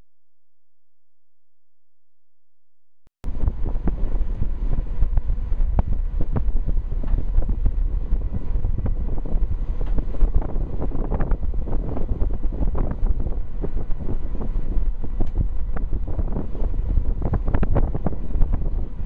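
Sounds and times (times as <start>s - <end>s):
wind buffeting microphone: 3.2s - 19.0s.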